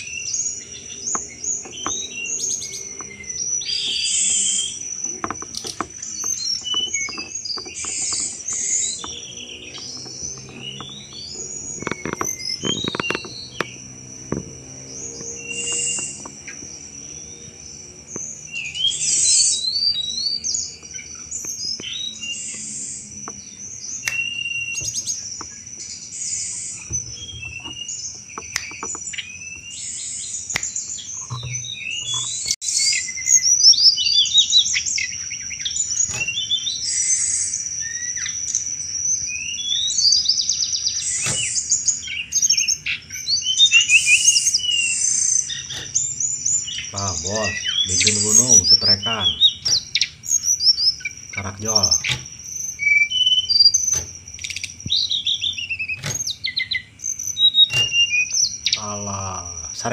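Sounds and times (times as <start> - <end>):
bird chattering chirps and trills: 0.0 - 59.9.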